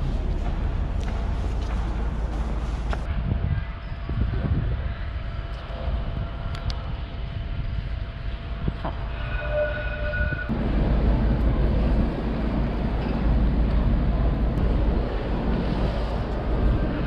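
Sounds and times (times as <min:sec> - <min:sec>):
wind buffeting microphone: 0:00.0 - 0:09.2, 0:10.2 - 0:17.0
steady whine: 0:00.0 - 0:17.0.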